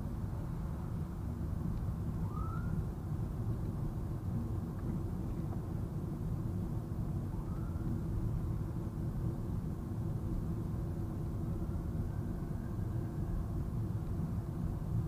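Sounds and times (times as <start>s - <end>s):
road and engine noise inside car: 0.0s - 15.0s.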